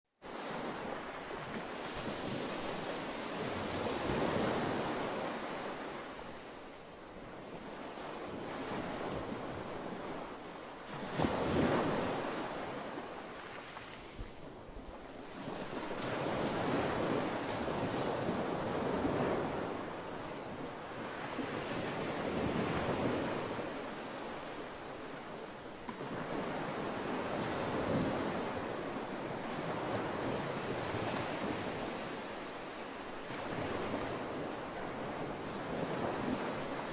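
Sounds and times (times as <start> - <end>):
waves breaking on beach: 0.2 - 36.9.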